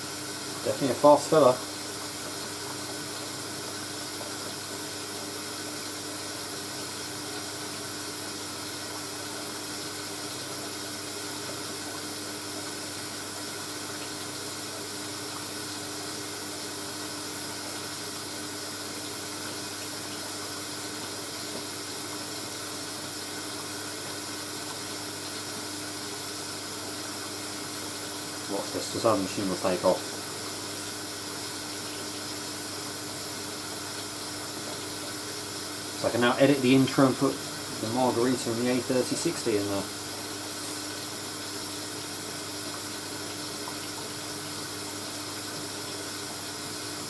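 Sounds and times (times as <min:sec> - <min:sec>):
washing machine low hum: 0:00.0 - 0:47.0
washing machine water rushing: 0:00.0 - 0:47.0.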